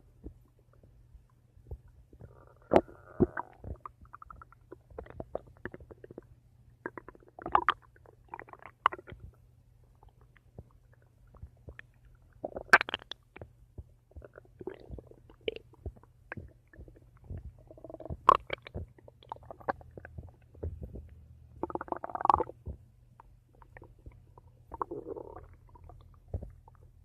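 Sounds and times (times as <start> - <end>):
stomach gurgling: 1.6 - 22.9, 23.5 - 27.0.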